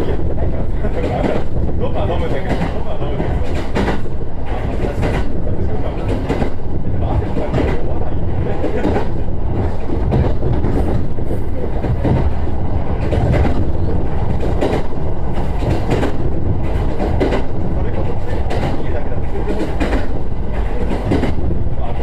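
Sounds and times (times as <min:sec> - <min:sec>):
train rumbling inside carriage: 0:00.0 - 0:22.0
wheels clicking over rail joints: 0:00.0 - 0:22.0.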